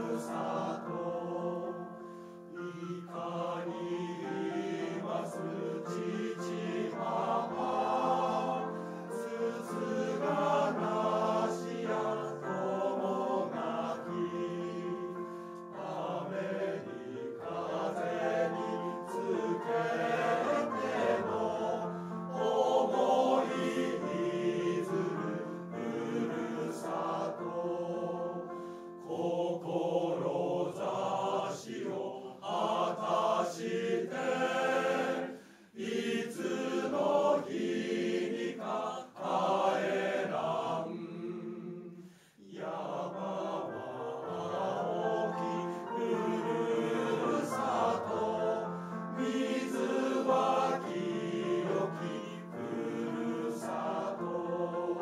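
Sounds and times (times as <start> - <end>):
men's choir singing: 0.0 - 55.0.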